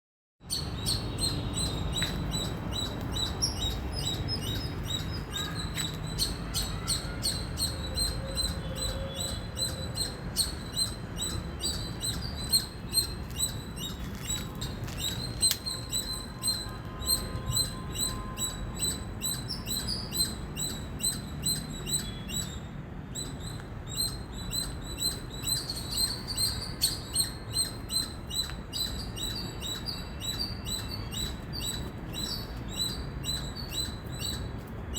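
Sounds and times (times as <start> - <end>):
squirrel chirping: 0.5 - 34.7.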